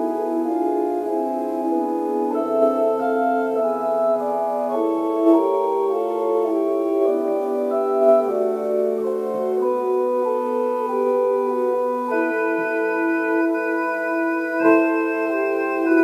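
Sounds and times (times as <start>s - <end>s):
electronic organ playing chords: 0.0s - 16.0s.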